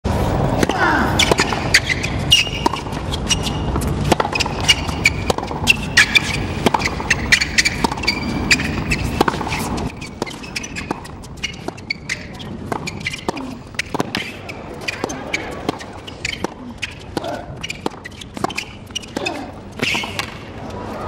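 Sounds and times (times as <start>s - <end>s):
shoes squeaking on court: 0.2s - 21.0s
tennis ball struck and bouncing: 0.6s - 20.5s.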